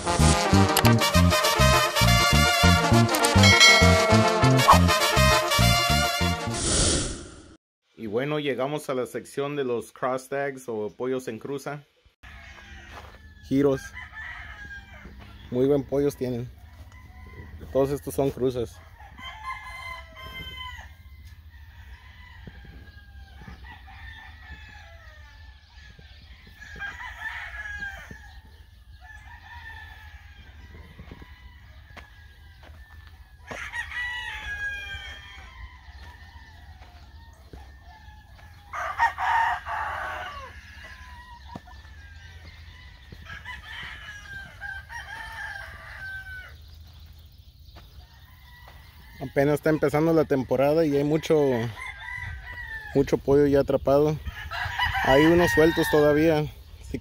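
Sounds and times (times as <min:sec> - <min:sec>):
roosters crowing: 0:00.0 - 0:06.5, 0:12.2 - 0:57.0.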